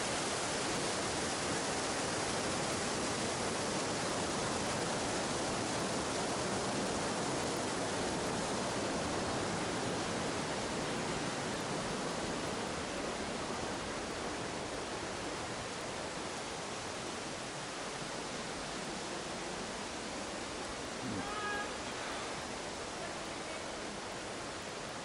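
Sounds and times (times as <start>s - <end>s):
mountain stream and waterfalls: 0.0s - 25.0s.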